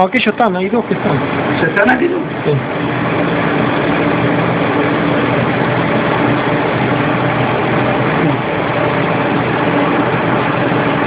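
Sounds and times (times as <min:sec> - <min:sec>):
loud machinery running: 0:00.0 - 0:11.0
low hum tones: 0:00.0 - 0:11.0.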